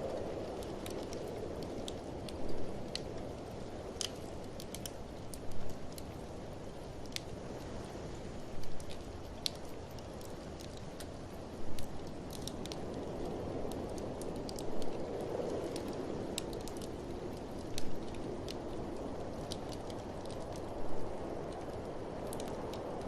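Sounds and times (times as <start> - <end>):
blizzard wind blowing: 0.0 - 23.0
fire popping: 0.0 - 23.0
wood fire crackling: 0.0 - 23.0.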